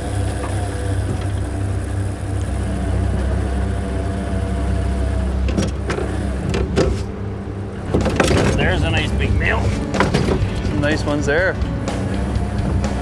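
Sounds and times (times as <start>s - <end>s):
boat engine running: 0.0s - 13.0s
rope hauling whine: 0.0s - 13.0s.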